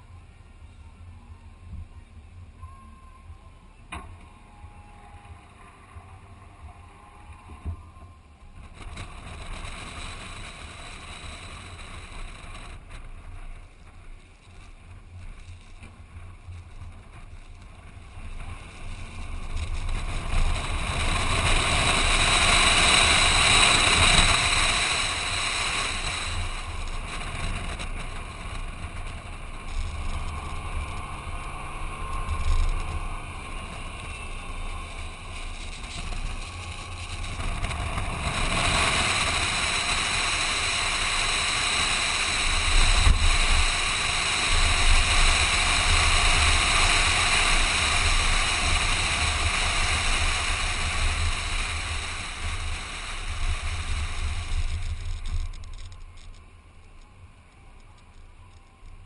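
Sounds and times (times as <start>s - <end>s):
engine and tyre rumble: 0.0s - 59.0s
wind rushing over microphone: 3.3s - 57.7s.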